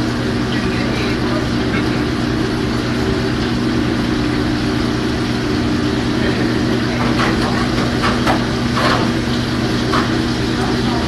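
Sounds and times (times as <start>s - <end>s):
loud machine hum: 0.0s - 11.0s.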